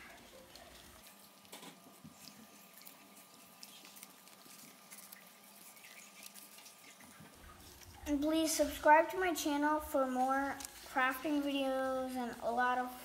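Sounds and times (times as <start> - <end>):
paper rustling and crinkling: 0.0 - 12.9.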